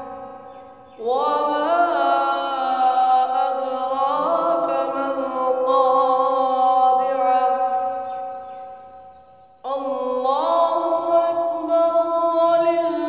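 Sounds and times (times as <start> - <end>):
boy chanting melodically: 0.0 - 8.6, 9.7 - 13.0.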